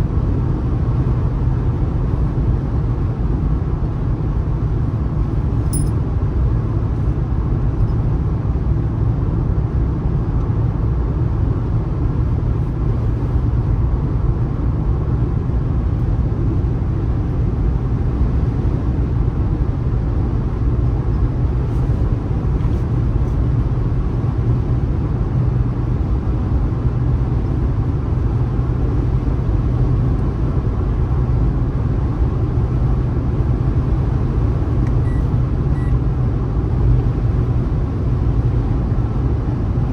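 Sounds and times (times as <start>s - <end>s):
car driving on road: 0.1s - 39.9s.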